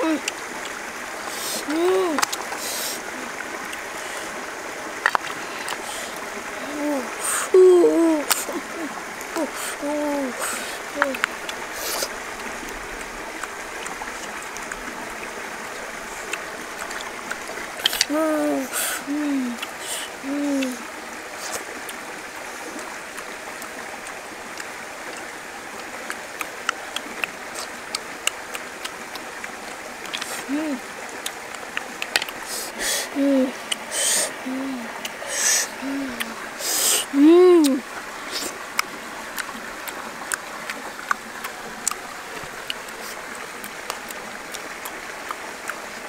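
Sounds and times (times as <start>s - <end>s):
boy chewing and lip smacking: 0.0s - 4.4s, 5.0s - 20.8s, 25.9s - 45.9s
flowing stream: 0.0s - 46.0s.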